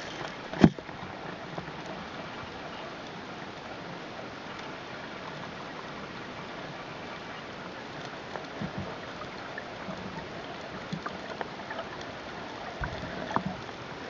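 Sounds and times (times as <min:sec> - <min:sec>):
faint clicks and crackles: 0:00.0 - 0:14.0.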